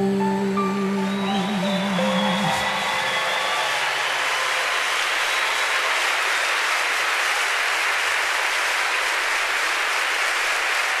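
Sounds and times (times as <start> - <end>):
crowd applauding: 0.9 - 11.0.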